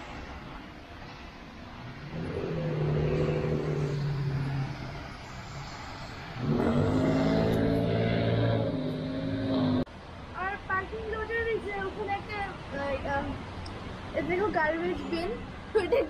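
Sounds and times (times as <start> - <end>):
vehicle engines passing by: 0.0 - 16.0.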